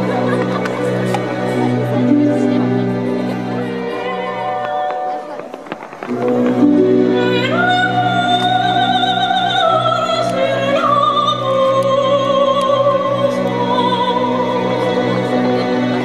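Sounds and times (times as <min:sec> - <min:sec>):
operatic singing: 0:00.0 - 0:16.0
orchestral accompaniment: 0:00.0 - 0:16.0.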